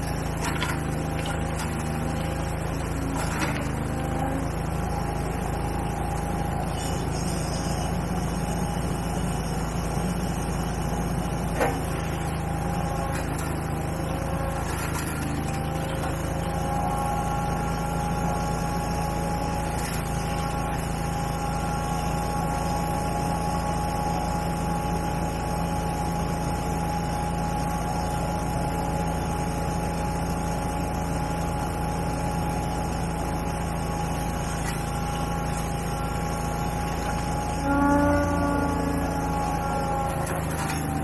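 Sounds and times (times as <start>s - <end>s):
engine running with whine: 0.0s - 41.0s.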